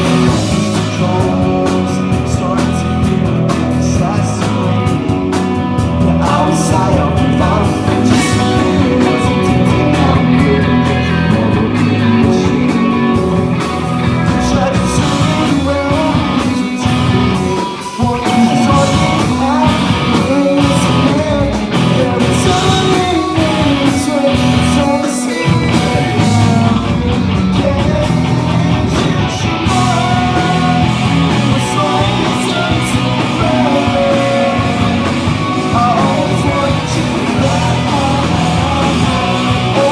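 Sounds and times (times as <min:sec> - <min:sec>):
live pop-punk band: 0:00.0 - 0:39.9
person singing: 0:00.0 - 0:39.9.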